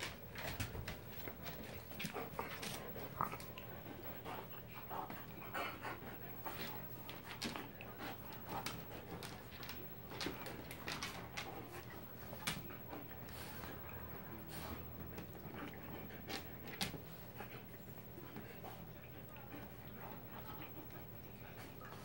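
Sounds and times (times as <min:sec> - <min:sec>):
dog panting: 0:00.0 - 0:22.0.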